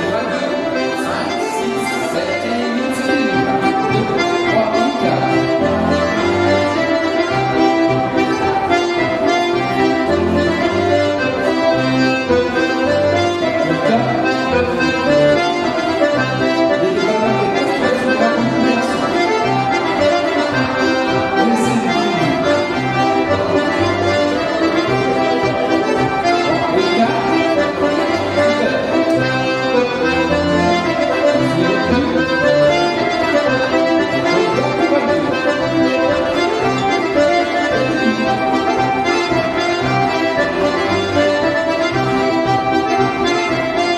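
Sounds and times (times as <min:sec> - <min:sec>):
accordion polka music: 0:00.0 - 0:43.9.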